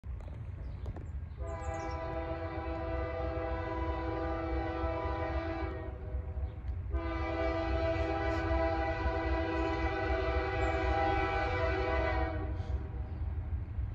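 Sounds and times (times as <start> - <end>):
low train rumble: 0.0 - 13.9
locomotive air horn chord: 1.4 - 13.0.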